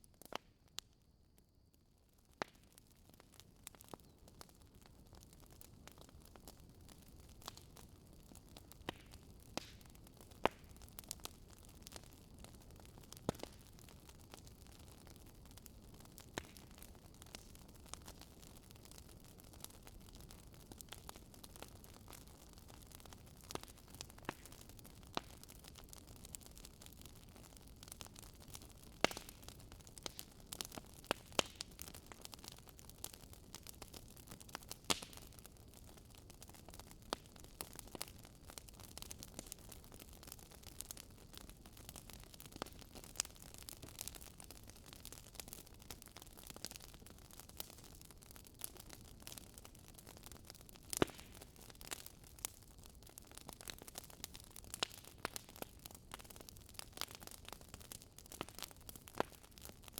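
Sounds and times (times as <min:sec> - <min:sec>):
wood fire crackling: 0:00.1 - 0:01.0, 0:01.6 - 0:59.9.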